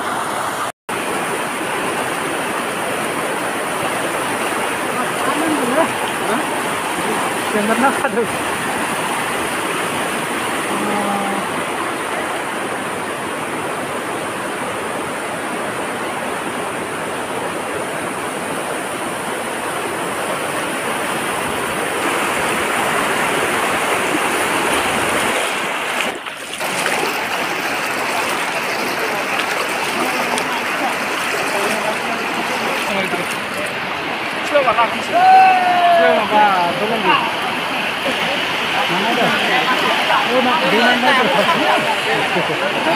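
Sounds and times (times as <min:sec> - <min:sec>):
floodwater rushing: 0:00.0 - 0:42.9.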